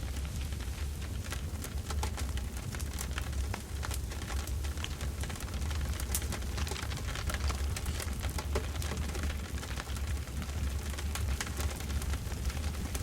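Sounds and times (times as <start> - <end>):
low fire rumble: 0.0 - 13.0
campfire crackling and popping: 0.1 - 13.0.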